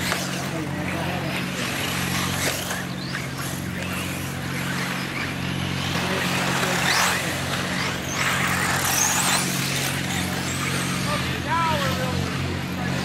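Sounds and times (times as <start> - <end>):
rc car motors whining: 0.0 - 13.0
steady low hum: 0.0 - 13.0.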